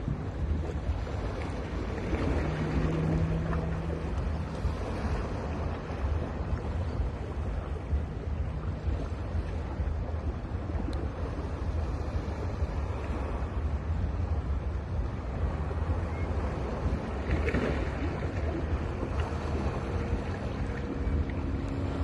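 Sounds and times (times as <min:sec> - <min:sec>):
waves breaking on a beach: 0:00.0 - 0:22.0
wind rumble on microphone: 0:00.0 - 0:22.0.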